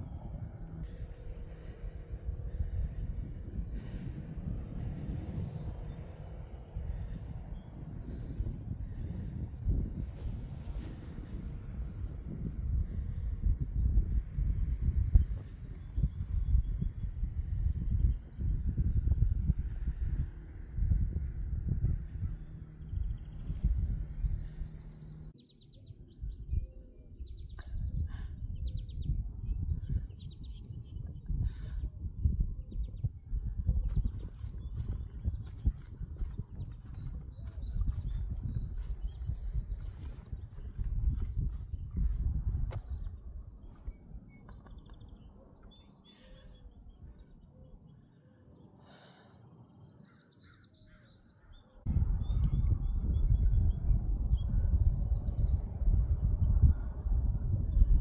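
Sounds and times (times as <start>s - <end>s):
irregular low rumble: 0.0s - 25.4s, 27.2s - 48.0s, 51.8s - 58.0s
small birds chirping: 0.0s - 58.0s
songbirds trilling: 0.0s - 58.0s.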